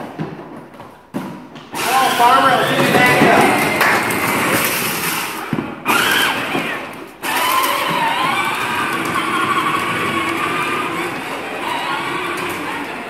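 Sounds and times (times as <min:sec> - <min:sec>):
toy tractor electric motor whining: 0:01.7 - 0:13.0.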